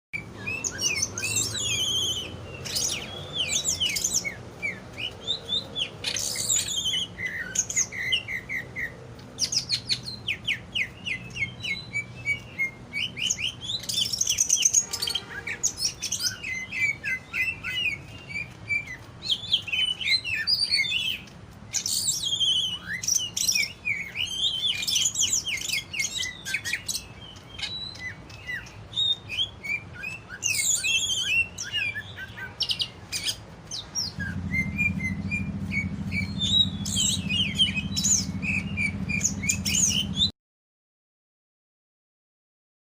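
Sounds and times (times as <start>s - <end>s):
bird singing chirps and trills: 0.2s - 40.3s.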